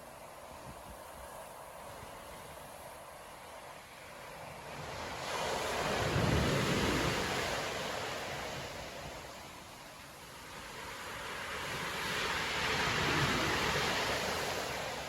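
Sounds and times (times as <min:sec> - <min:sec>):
sea waves crashing on beach: 0:00.0 - 0:15.0.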